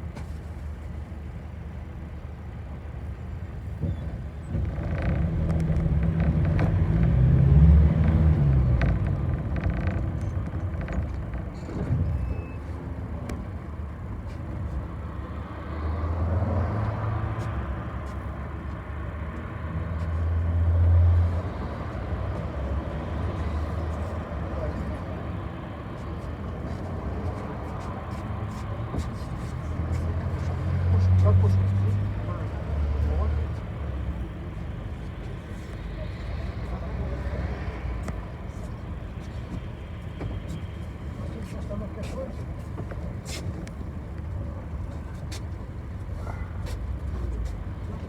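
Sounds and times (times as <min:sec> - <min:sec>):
bus engine accelerating: 0:00.0 - 0:48.0.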